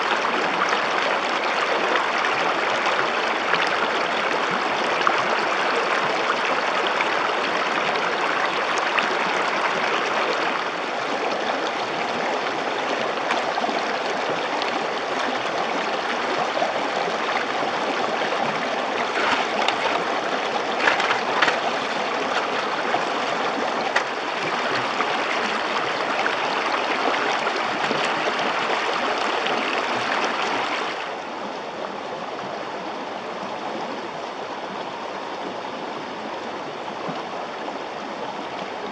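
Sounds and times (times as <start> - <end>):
river water rushing over stones: 0.0 - 32.8.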